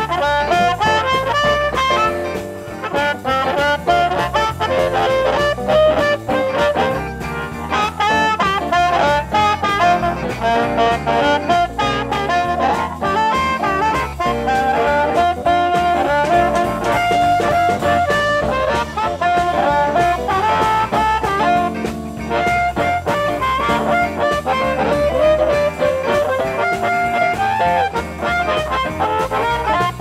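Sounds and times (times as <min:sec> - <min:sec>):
amplified blues harmonica: 0:00.0 - 0:30.0
drums: 0:00.0 - 0:30.0
electric guitar: 0:00.0 - 0:30.0.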